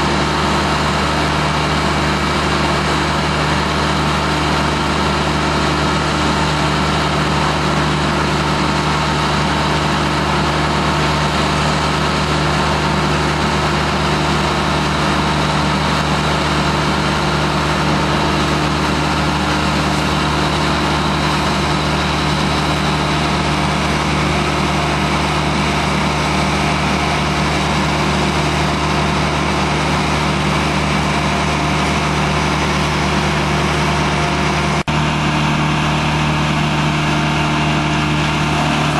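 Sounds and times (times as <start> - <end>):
motor engine running steadily: 0.0 - 38.9.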